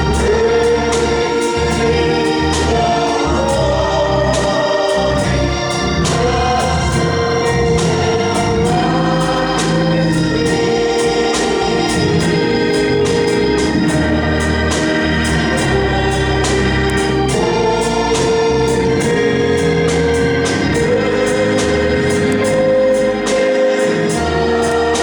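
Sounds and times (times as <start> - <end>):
organ holding chords: 0.0 - 25.0
steady beat: 0.0 - 25.0.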